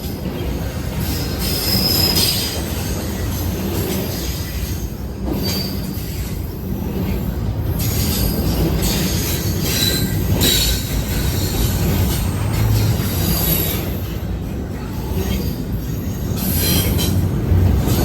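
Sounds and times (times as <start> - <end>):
train rumbling past: 0.0 - 18.0
train wheels squealing: 0.8 - 7.0, 7.8 - 14.2, 14.8 - 18.0.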